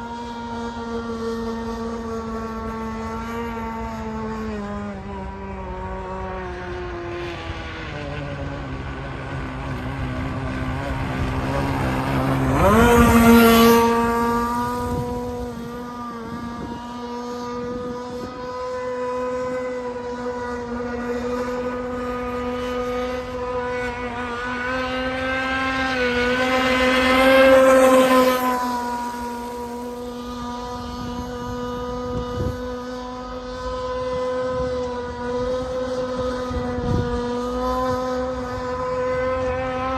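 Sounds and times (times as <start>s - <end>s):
model boat engine revving: 0.0s - 39.9s.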